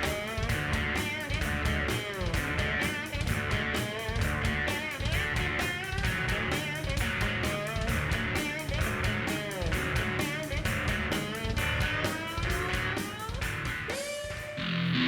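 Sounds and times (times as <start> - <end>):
steady drum beat: 0.0 - 14.8
guitar with bending notes: 0.0 - 15.0.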